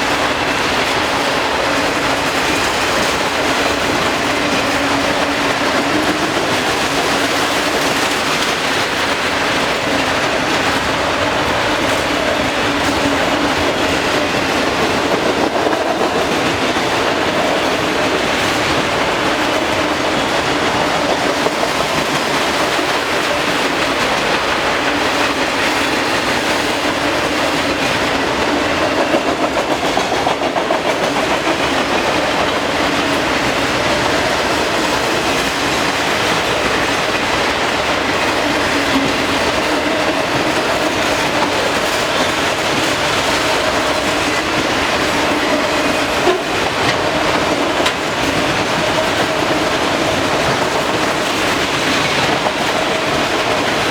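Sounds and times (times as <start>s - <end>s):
freight train wheels clattering: 0.0s - 53.9s.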